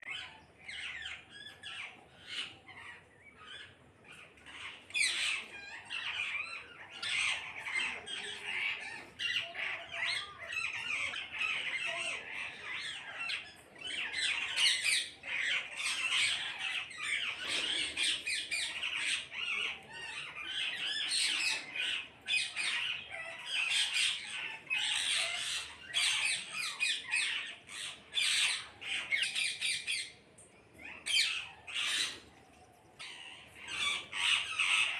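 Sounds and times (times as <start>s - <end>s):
parrots squawking: 0.0s - 30.2s, 30.8s - 32.3s, 33.0s - 34.9s.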